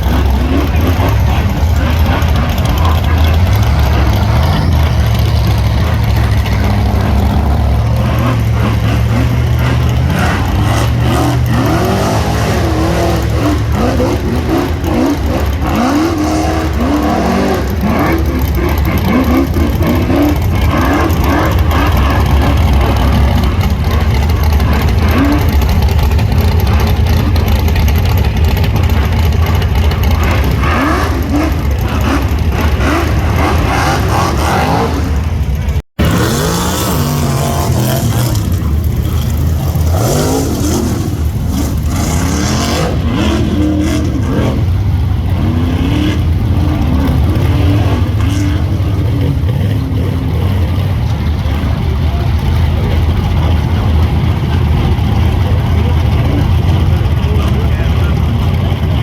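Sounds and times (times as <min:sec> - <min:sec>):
buggy engines revving: 0:00.0 - 0:59.0.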